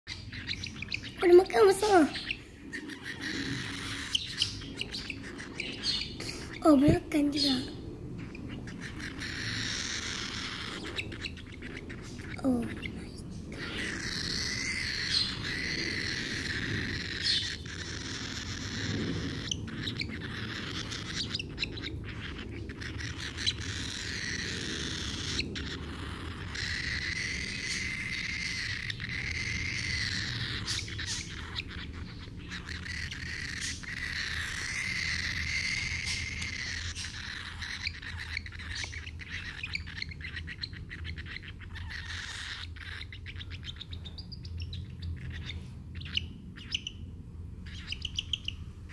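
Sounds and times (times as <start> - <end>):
cockatiel calling: 0.1 - 48.9.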